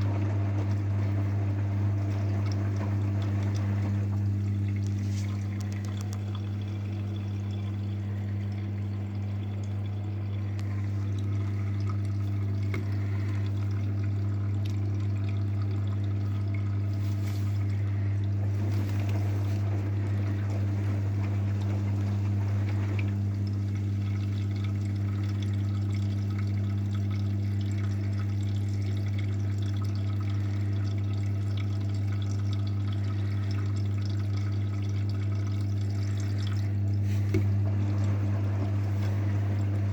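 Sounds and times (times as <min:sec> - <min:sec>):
washing machine humming: 0:00.0 - 0:39.9
water splashing in washing machine: 0:00.0 - 0:39.9.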